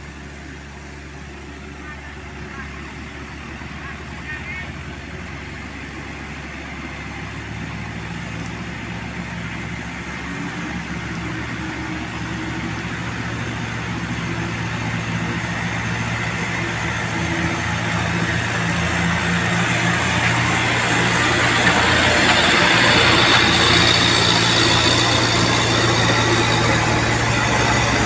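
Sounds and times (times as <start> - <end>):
tractor diesel engine under load: 0.0 - 28.0
truck engine: 0.0 - 28.0.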